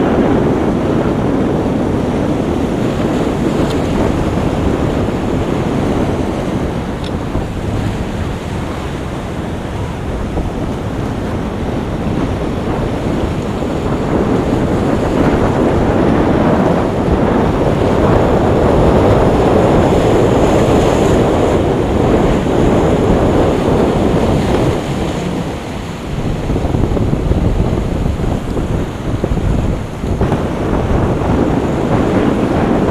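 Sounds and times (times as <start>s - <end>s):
surf washing: 0.0s - 32.9s
wind buffeting microphone: 0.0s - 32.9s.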